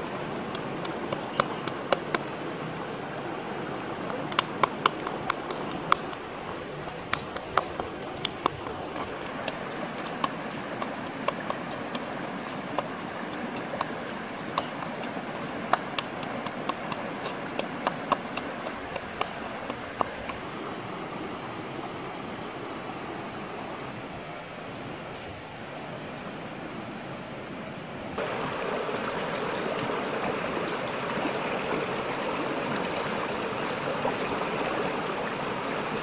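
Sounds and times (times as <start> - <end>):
shallow rocky stream rushing: 0.0 - 36.0.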